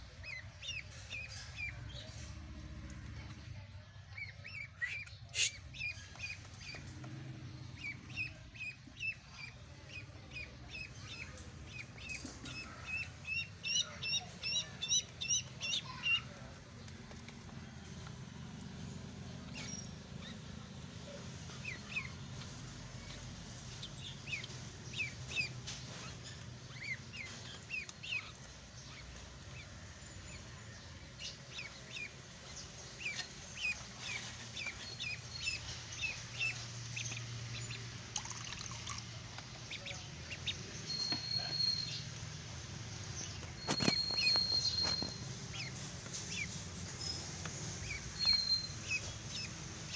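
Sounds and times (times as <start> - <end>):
ducklings peeping: 0.0 - 49.9.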